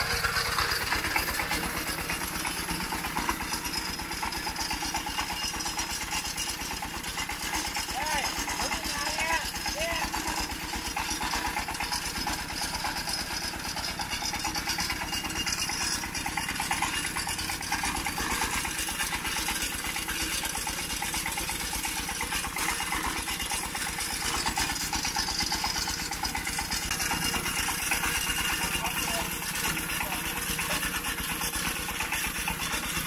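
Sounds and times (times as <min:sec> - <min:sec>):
small engine idling: 0:00.0 - 0:33.0.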